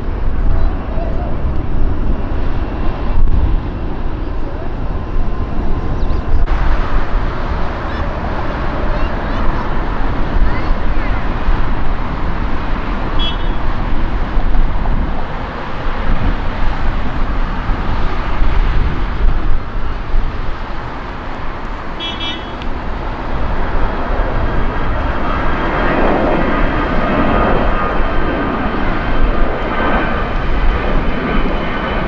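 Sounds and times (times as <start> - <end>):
jet aircraft rumble: 0.0 - 32.0
jet engine whine: 0.0 - 32.0.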